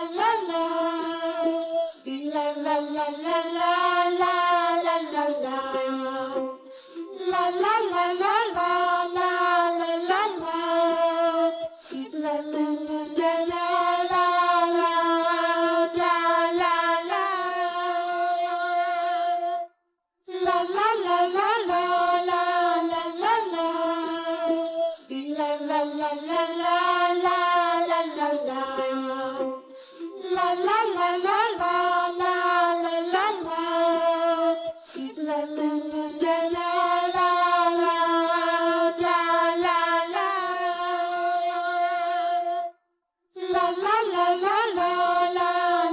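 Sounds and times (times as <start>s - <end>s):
high child-like voice singing: 0.0s - 19.7s, 20.3s - 42.7s, 43.4s - 45.9s.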